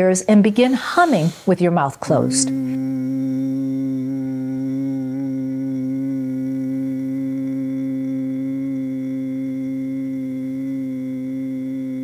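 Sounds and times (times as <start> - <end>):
man humming low note: 2.2 - 12.0.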